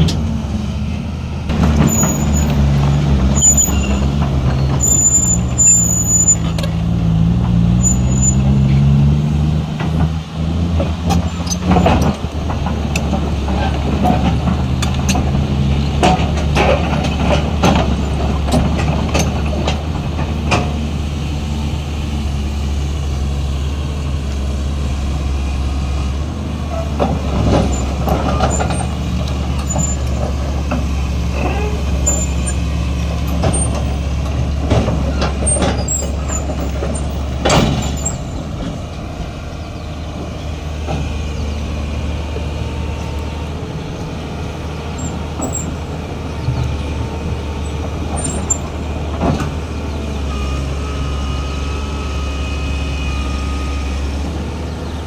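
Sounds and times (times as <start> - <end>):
diesel excavator engine running: 0.0 - 55.0
steel tracks clanking on ramps: 1.5 - 22.5, 26.1 - 55.0.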